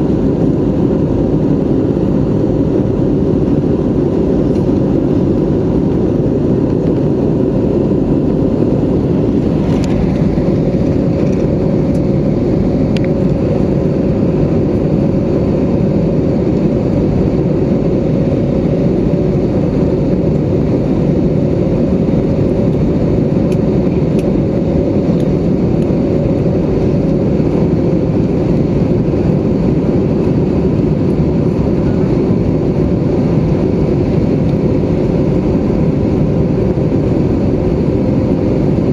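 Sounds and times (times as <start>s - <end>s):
jet engines and airflow rushing: 0.0s - 38.9s.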